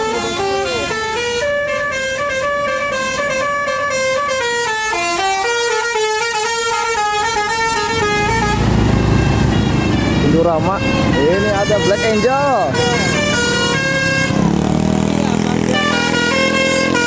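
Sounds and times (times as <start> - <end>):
bus musical horn playing a tune: 0.0 - 14.5, 15.6 - 17.0
bus engine rumble: 0.0 - 17.0.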